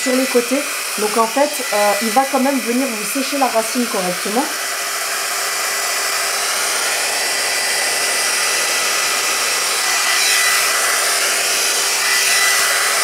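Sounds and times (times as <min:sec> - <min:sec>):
hot-air styler fan whining: 0:00.0 - 0:13.0.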